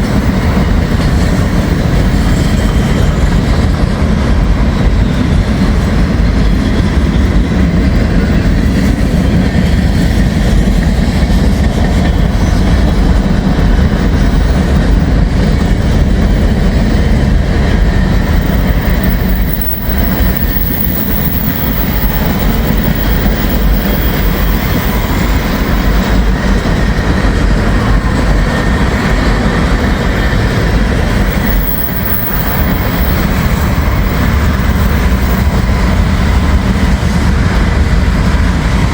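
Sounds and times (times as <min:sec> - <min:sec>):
freight train rumbling and rattling: 0:00.0 - 0:38.9.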